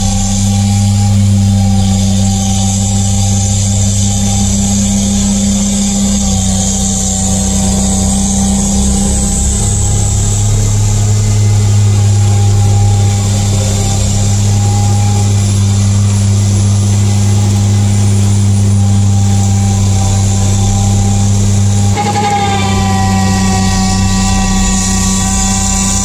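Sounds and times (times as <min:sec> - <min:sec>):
high whining tones: 0:00.0 - 0:26.0
loader engine and snowblower drone: 0:00.0 - 0:26.0.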